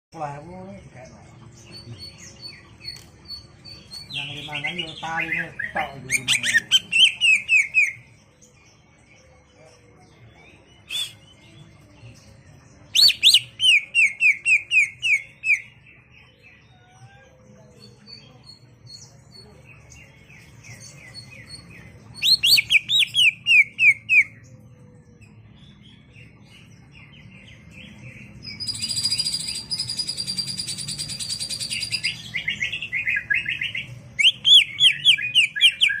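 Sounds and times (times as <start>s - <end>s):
bird singing: 0.1s - 36.0s.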